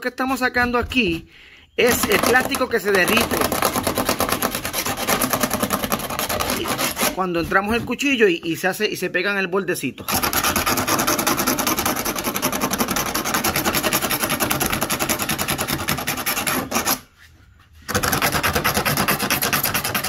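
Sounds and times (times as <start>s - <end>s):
blade scraping plastic: 1.8s - 8.0s, 10.0s - 20.0s.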